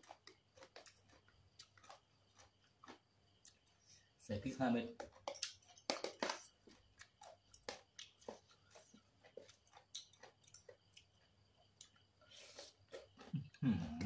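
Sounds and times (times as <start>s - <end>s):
quiet chewing: 0.0s - 4.2s, 4.9s - 14.0s.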